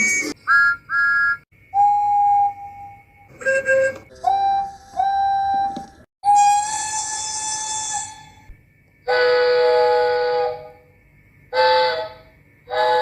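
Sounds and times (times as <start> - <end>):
electronic toy train whistle toots: 0.0 - 13.0.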